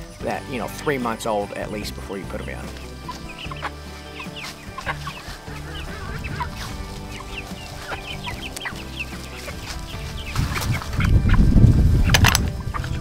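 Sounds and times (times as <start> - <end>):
background music: 0.0 - 13.0
chickens clucking and chirping: 0.0 - 13.0.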